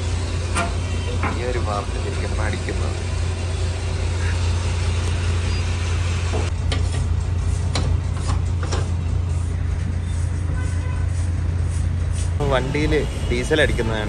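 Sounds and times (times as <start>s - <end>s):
low machine hum: 0.0s - 13.8s.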